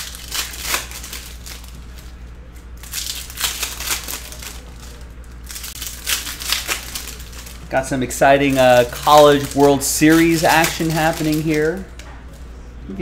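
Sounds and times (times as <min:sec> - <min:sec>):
trading cards rustling: 0:00.0 - 0:12.6.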